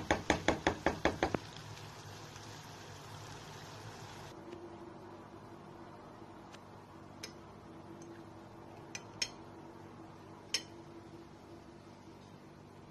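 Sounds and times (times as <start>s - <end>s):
faint hum: 1.5s - 12.9s.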